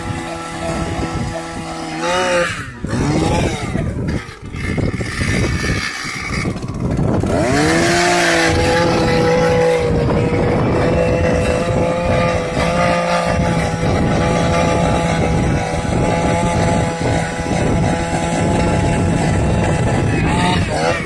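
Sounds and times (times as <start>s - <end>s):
ice auger motor drilling: 0.0s - 21.0s.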